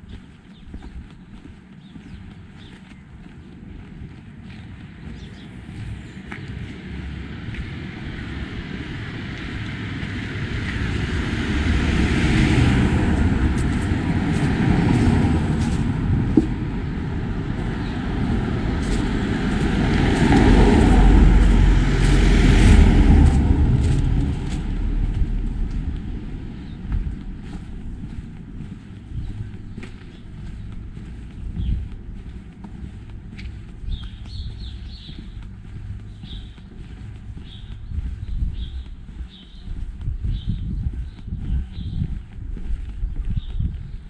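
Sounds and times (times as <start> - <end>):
traffic driving past: 2.4 - 43.0.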